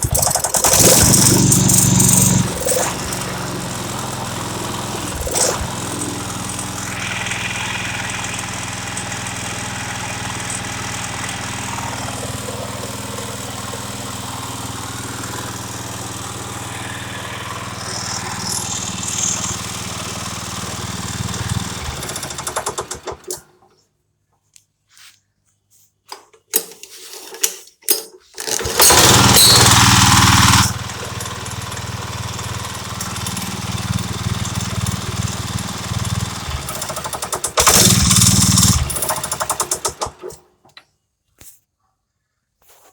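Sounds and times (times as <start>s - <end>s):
concrete cutter engine running: 0.0s - 23.6s, 28.5s - 40.4s.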